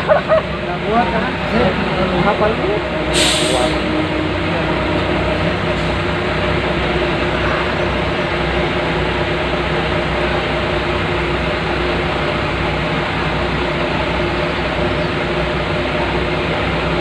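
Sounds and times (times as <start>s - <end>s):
large engines rumbling: 0.0s - 17.0s.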